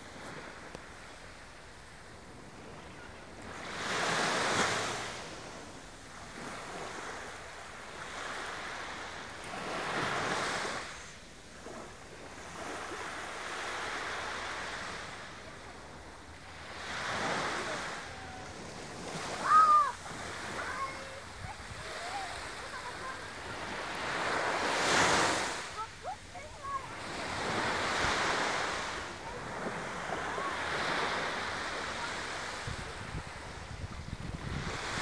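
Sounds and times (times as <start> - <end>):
small waves washing up beach: 0.0 - 35.0.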